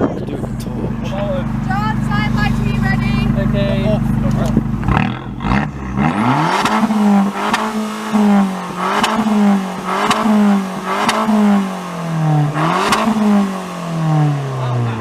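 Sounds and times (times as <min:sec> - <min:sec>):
car engine revving: 0:00.0 - 0:15.0
exhaust crack: 0:00.0 - 0:15.0.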